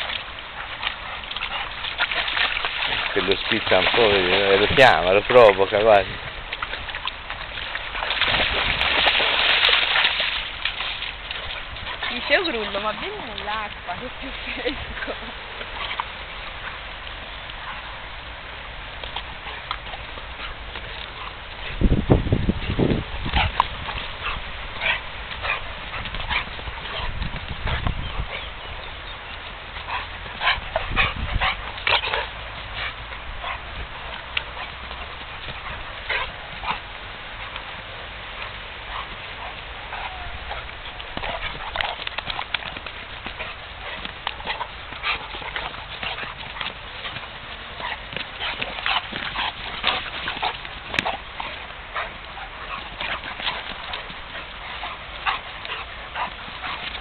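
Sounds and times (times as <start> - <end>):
dog noises: 0.0 - 6.1, 7.8 - 18.1, 19.0 - 21.8, 22.5 - 57.0
dogs snapping: 0.0 - 14.2, 18.9 - 21.4, 22.6 - 57.0
dogs scuffling: 0.0 - 18.0, 18.9 - 57.0.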